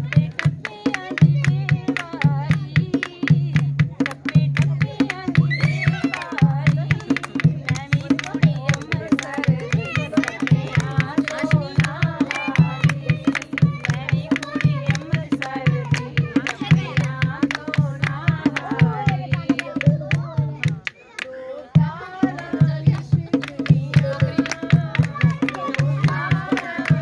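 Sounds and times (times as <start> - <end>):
hand drum beating: 0.0 - 20.9, 21.8 - 27.0
women singing folk song: 0.0 - 27.0
hand clapping: 0.1 - 21.4, 22.3 - 27.0.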